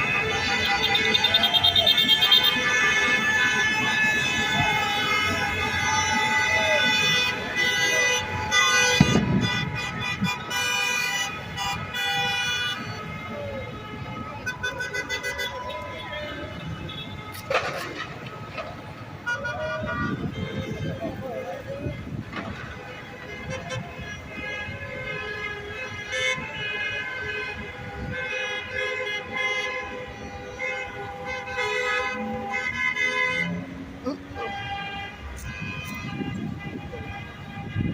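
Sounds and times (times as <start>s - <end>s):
car horns honking: 0.0s - 37.9s
traffic rumble: 0.0s - 37.9s.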